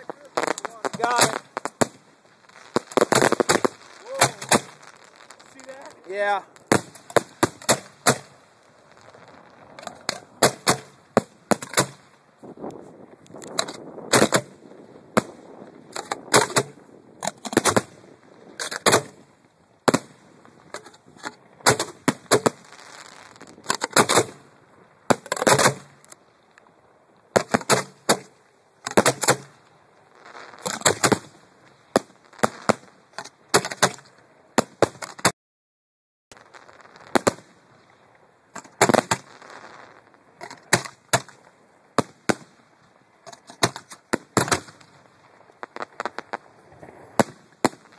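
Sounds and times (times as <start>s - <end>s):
fireworks bangs: 0.0s - 26.1s, 27.3s - 35.3s, 36.3s - 47.9s
fireworks crackling: 0.0s - 35.3s, 36.3s - 47.9s.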